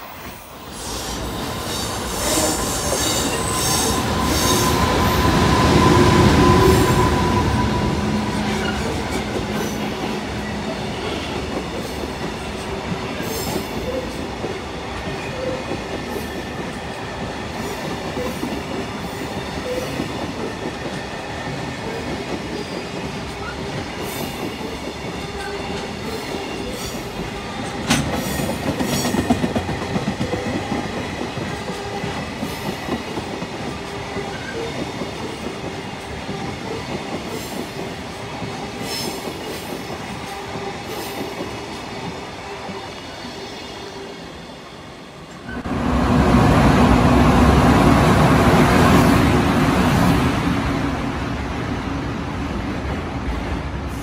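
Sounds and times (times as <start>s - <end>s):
electric locomotive running past: 0.0s - 54.0s.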